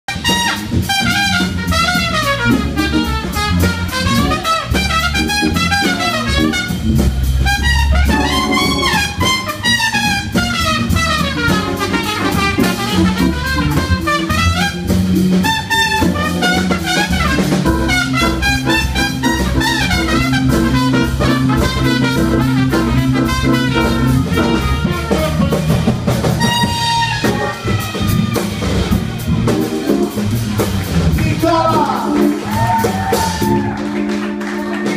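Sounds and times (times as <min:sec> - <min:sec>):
jazz-funk band playing: 0:00.0 - 0:34.9
drum hits: 0:00.1 - 0:33.7
horns playing melody: 0:00.1 - 0:34.9
organ bass line: 0:00.1 - 0:34.9.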